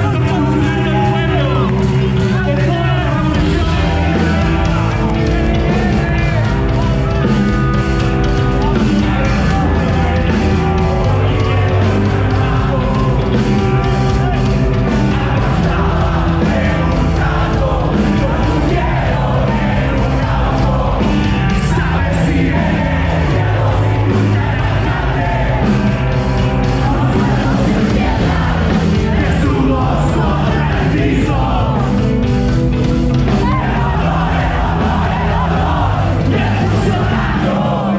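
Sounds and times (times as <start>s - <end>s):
bass line: 0.0s - 37.9s
rock band playing: 0.0s - 37.9s
steady drumbeat: 0.0s - 37.9s.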